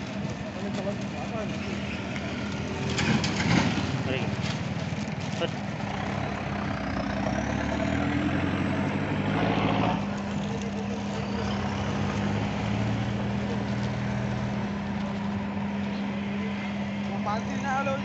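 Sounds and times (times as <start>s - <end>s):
engine humming steadily: 0.0s - 18.0s
roadside traffic noise: 0.0s - 18.0s.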